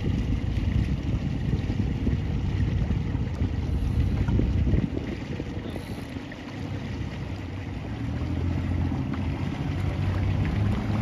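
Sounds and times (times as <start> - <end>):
motorboat engine rumbling: 0.0 - 11.0.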